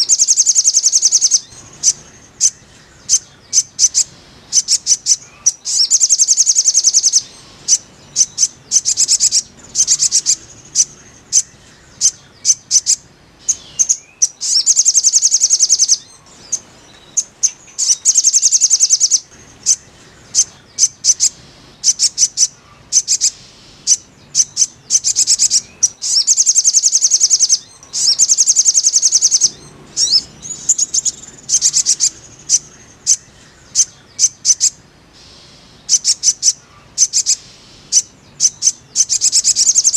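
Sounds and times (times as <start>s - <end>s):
bird trilling: 0.0s - 39.9s.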